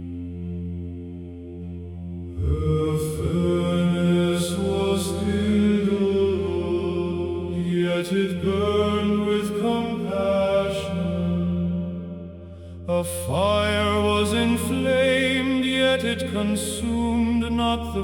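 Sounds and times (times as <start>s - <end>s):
low steady drone: 0.0s - 18.0s
slow chanted vocal music: 0.0s - 18.0s.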